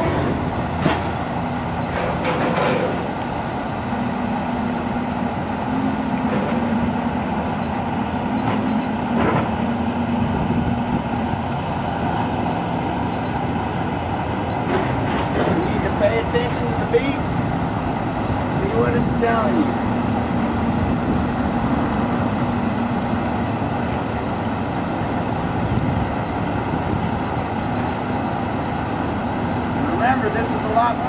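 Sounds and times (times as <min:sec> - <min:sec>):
heavy truck rumbling: 0:00.0 - 0:31.0.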